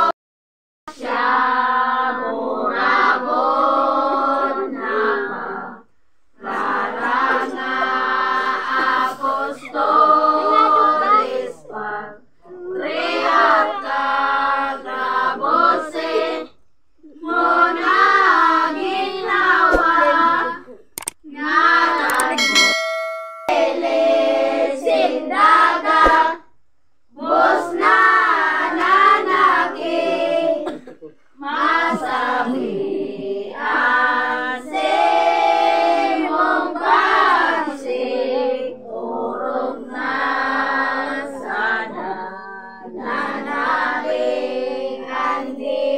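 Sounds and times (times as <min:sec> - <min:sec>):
children singing a hymn: 0:00.9 - 0:05.8, 0:06.4 - 0:20.7, 0:23.5 - 0:26.4, 0:27.2 - 0:30.8, 0:31.4 - 0:45.9.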